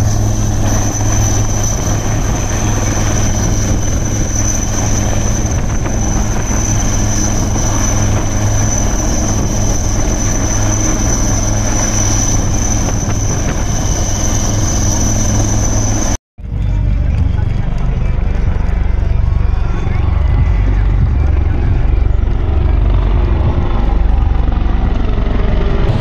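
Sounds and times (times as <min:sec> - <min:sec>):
helicopter rotor and engine: 0:00.0 - 0:26.0
high whine: 0:00.0 - 0:26.0.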